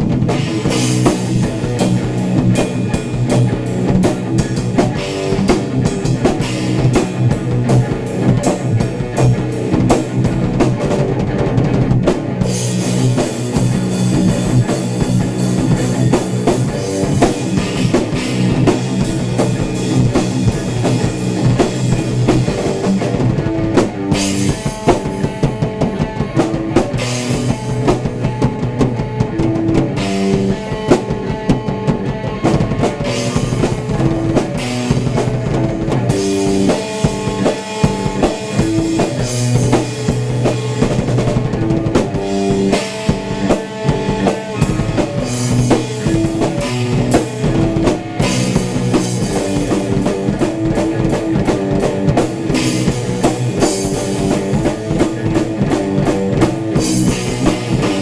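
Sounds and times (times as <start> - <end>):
electric guitar playing rock: 0.0 - 58.0
rock drum kit: 0.0 - 58.0.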